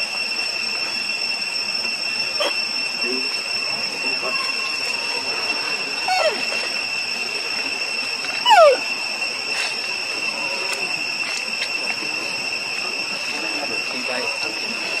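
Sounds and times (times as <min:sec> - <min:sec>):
steady high-pitched tone: 0:00.0 - 0:15.0.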